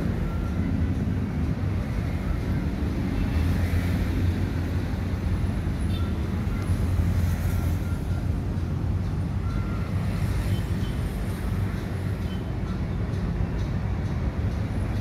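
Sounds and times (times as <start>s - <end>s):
city traffic: 0.0s - 15.0s.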